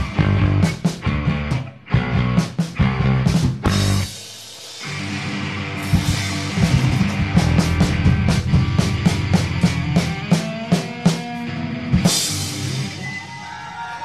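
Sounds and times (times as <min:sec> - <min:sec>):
bass guitar: 0:00.0 - 0:13.3
drum kit: 0:00.0 - 0:14.0
electric guitar: 0:00.0 - 0:14.0.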